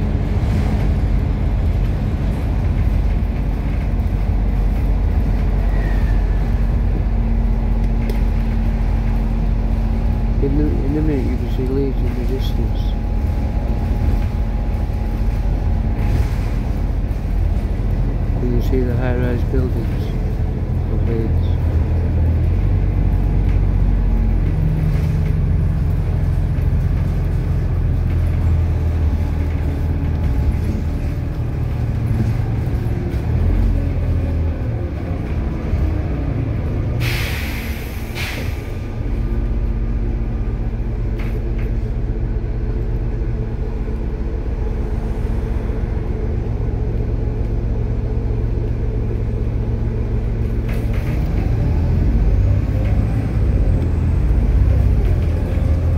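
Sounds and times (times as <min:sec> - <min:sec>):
vehicle engine and road drone: 0:00.0 - 0:55.9.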